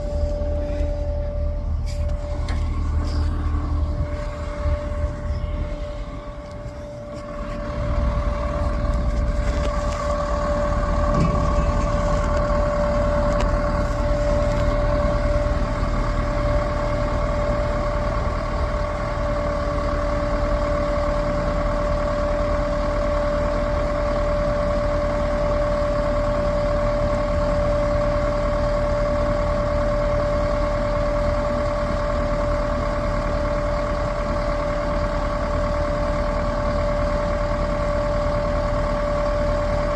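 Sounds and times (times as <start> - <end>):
heavy diesel engine whining: 0.0 - 39.9.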